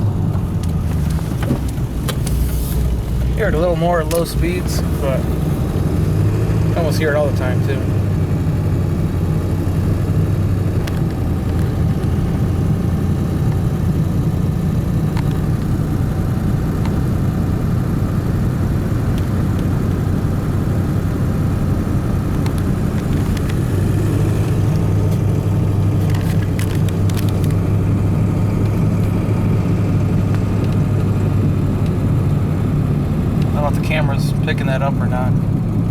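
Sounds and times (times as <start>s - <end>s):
diesel truck engine and road drone: 0.0s - 35.9s.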